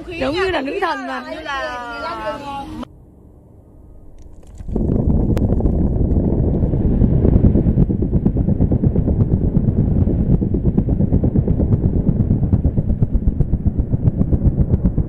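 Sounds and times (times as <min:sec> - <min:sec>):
wind buffeting microphone: 0:00.0 - 0:02.9, 0:03.8 - 0:15.0.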